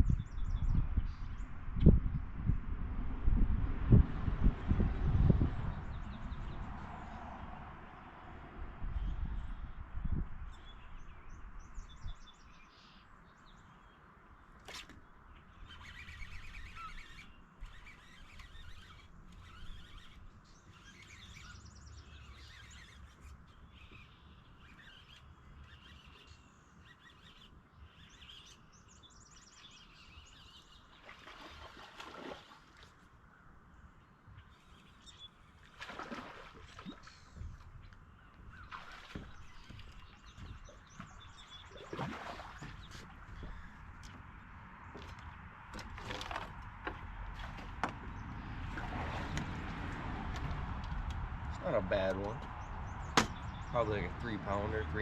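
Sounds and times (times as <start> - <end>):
small birds chirping: 8.9 - 55.0.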